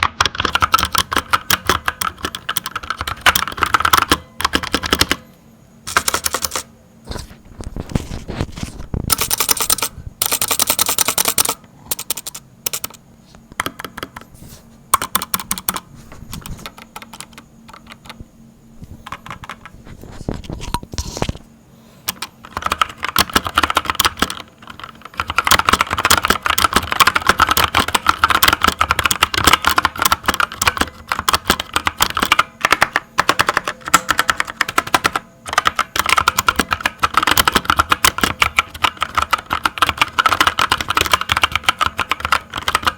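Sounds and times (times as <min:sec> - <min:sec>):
mechanical keyboard typing: 0:00.0 - 0:05.2, 0:05.9 - 0:07.2, 0:09.0 - 0:14.3, 0:15.0 - 0:18.2, 0:19.0 - 0:19.8, 0:22.1 - 0:42.9.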